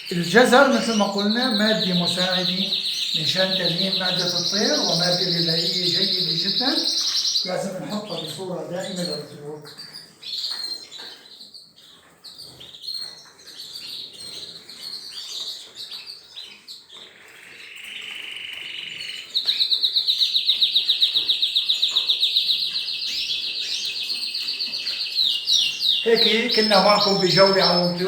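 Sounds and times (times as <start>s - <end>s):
canaries chirping: 0.0s - 28.0s.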